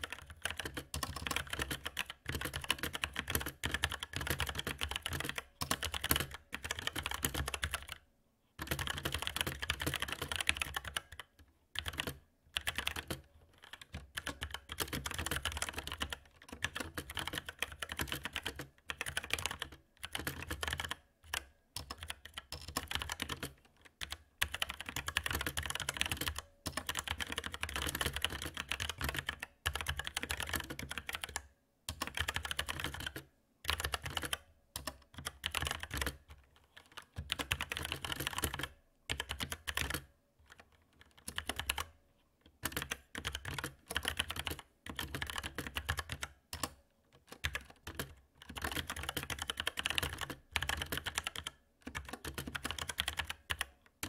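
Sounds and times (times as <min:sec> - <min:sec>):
typing on mechanical keyboard: 0:00.0 - 0:08.0, 0:08.6 - 0:54.0.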